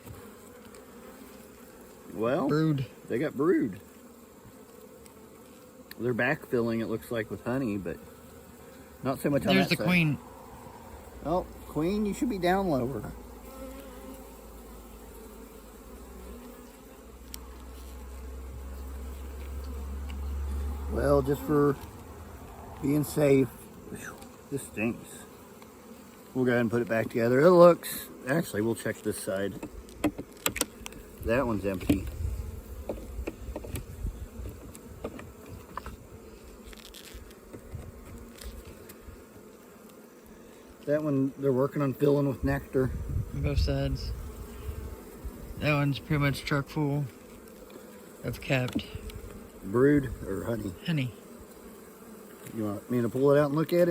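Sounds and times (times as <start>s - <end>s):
honeybees buzzing: 0.0s - 53.9s.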